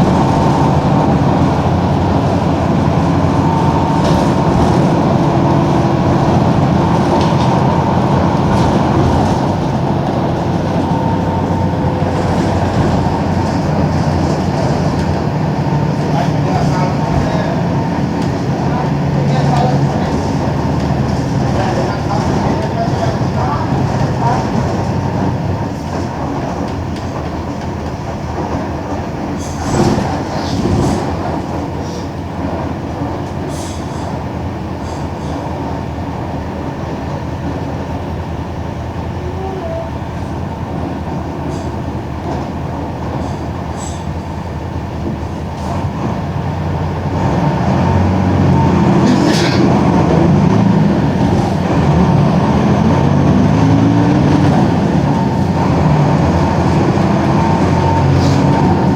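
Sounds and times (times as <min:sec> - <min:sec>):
bus diesel engine drone: 0:00.0 - 0:58.9.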